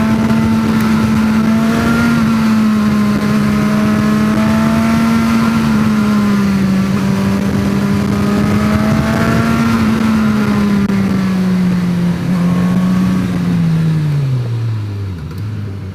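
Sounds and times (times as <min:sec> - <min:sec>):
motorcycle engine revving high: 0:00.0 - 0:15.9.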